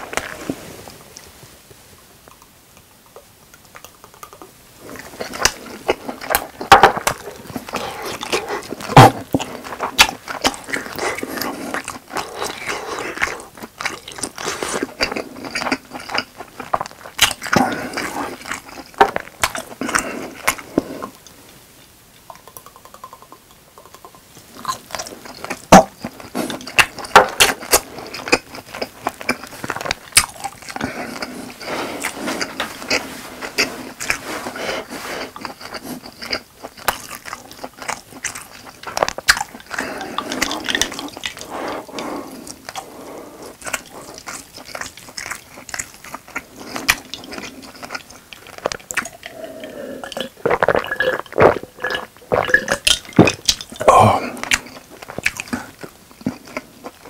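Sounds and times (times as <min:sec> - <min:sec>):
close chewing: 0:02.2 - 0:21.4, 0:22.2 - 0:57.0.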